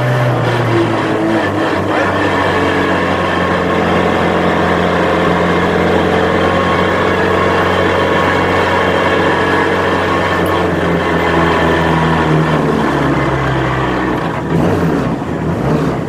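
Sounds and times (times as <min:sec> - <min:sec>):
rally car engine running: 0:00.0 - 0:16.0.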